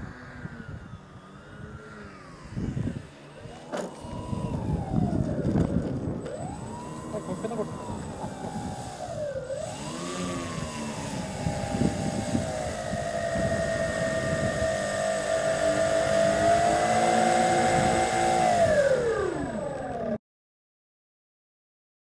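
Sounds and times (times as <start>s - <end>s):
model aircraft engines running: 0.0s - 20.2s.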